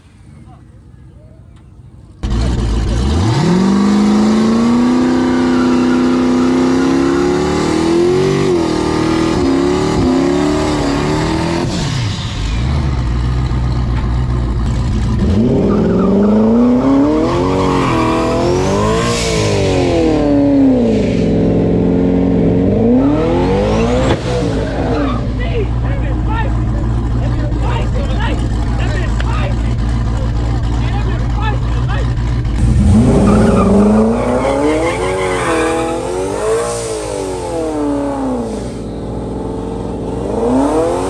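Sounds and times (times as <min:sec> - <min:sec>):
turbocharged car engine revving: 0:02.2 - 0:41.0.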